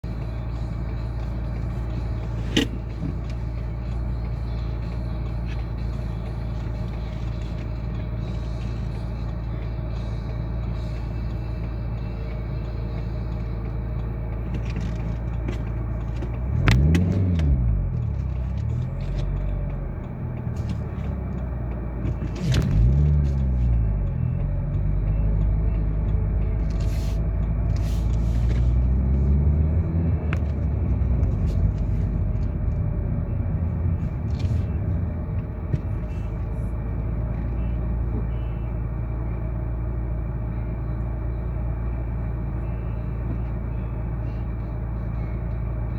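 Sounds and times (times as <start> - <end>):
vehicle engine humming: 0.0 - 45.9.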